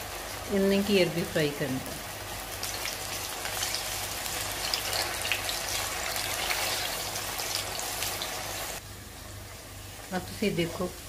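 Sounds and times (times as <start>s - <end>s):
food deep-frying in hot oil: 0.0s - 11.0s.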